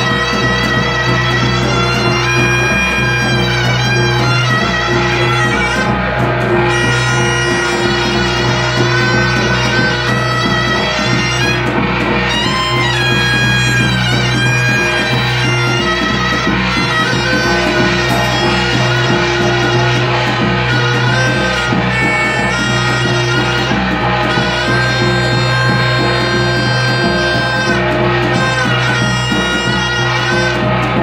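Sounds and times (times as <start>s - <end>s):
cymbals: 0.0s - 31.0s
reedy wind instrument melody: 0.0s - 31.0s
steady drumming: 0.0s - 31.0s.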